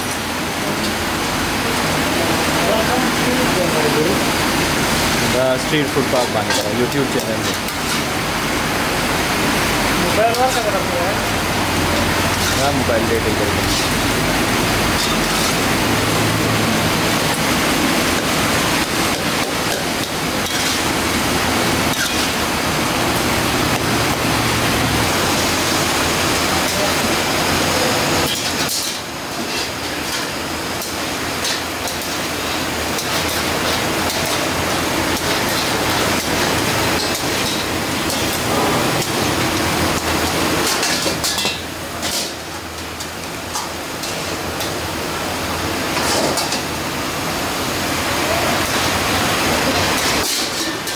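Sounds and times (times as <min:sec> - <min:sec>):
meat sizzling in woks: 0:00.0 - 0:50.9
metal utensils scraping woks: 0:00.0 - 0:50.9.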